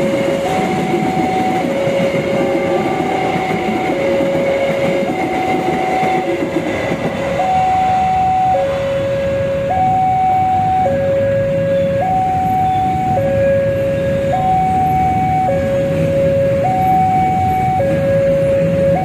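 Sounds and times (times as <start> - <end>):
level crossing alarm alternating tones: 0.0 - 19.0
train coaches rumbling on rails: 0.0 - 19.0.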